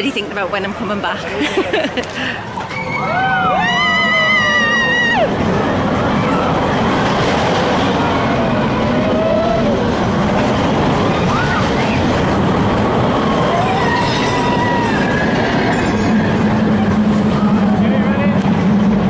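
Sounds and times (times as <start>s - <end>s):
roller coaster rumbling on track: 0.0s - 19.0s.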